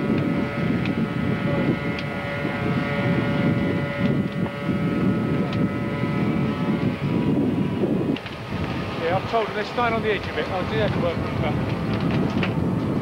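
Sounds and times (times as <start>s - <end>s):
fire engines droning: 0.0s - 13.0s
wind buffeting microphone: 0.0s - 13.0s.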